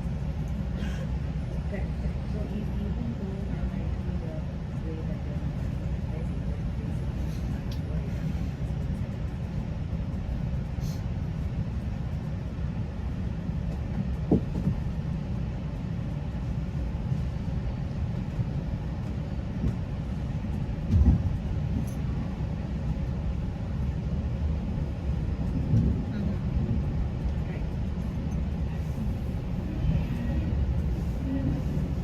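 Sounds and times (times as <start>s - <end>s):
train rumble inside coach: 0.0s - 32.0s.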